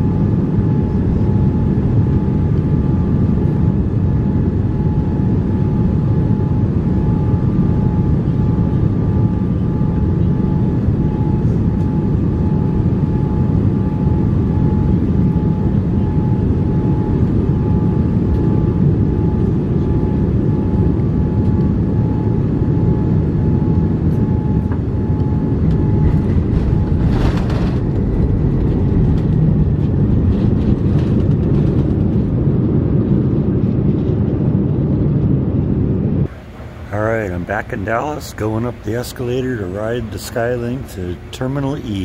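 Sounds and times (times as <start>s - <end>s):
thin steady whine: 0.0s - 33.6s, 35.2s - 42.0s
jet engine and airflow rumble: 0.0s - 42.0s.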